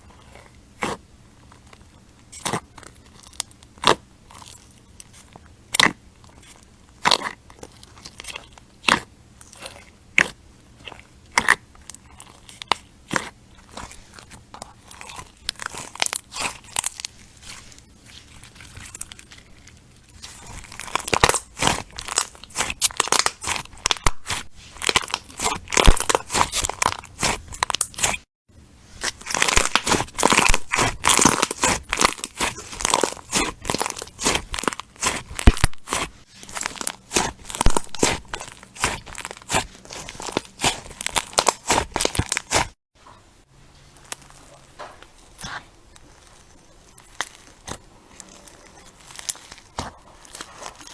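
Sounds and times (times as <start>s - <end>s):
slime crackling and popping: 2.3s - 28.2s, 29.0s - 42.8s, 44.0s - 50.9s.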